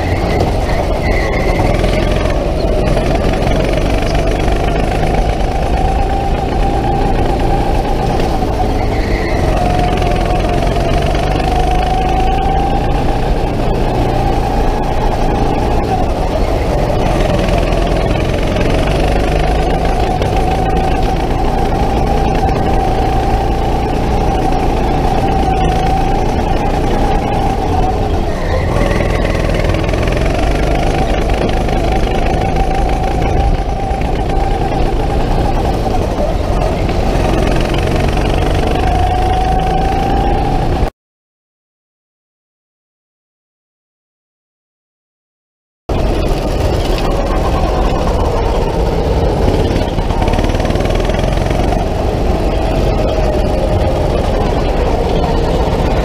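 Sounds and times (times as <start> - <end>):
go-kart engine whining: 0.0 - 40.9, 45.9 - 56.0.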